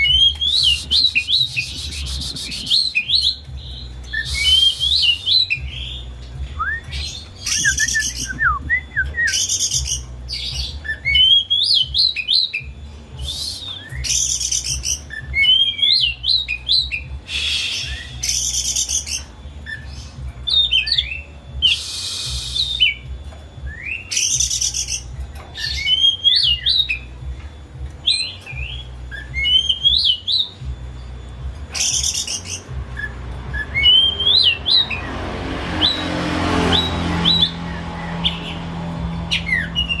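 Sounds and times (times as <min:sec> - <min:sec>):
bird whistling song: 0:00.0 - 0:27.4, 0:28.0 - 0:35.2, 0:35.8 - 0:40.0.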